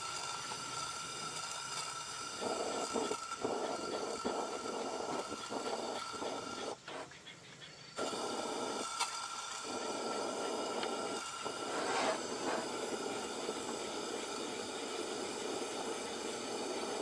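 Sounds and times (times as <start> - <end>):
gas lantern hissing: 0.0 - 17.0.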